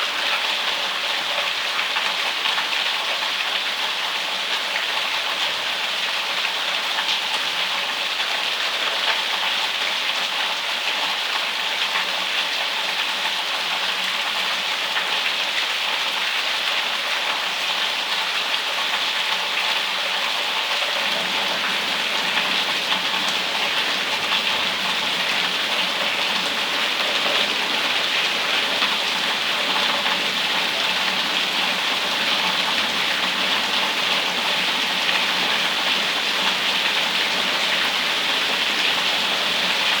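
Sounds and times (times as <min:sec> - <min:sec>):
rain pouring: 0:00.0 - 0:40.0.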